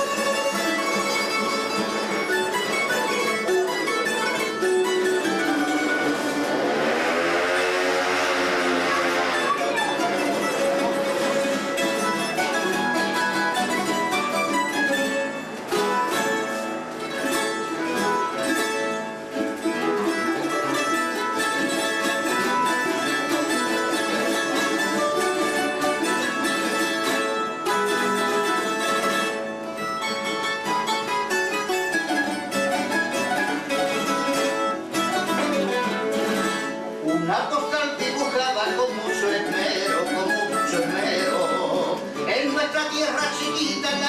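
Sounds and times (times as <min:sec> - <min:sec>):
plucked string trio: 0:00.0 - 0:44.0.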